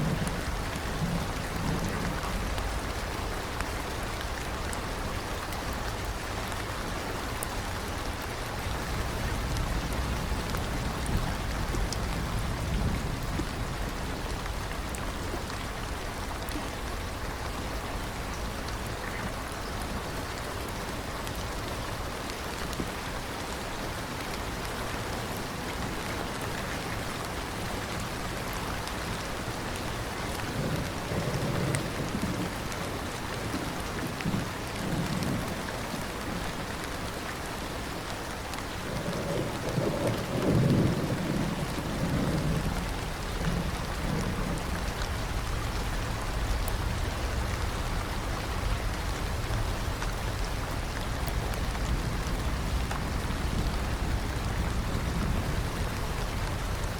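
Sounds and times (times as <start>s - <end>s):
low thunder rumbles: 0.0s - 22.1s, 27.3s - 36.5s, 38.6s - 56.9s
steady rain falling: 0.0s - 56.9s.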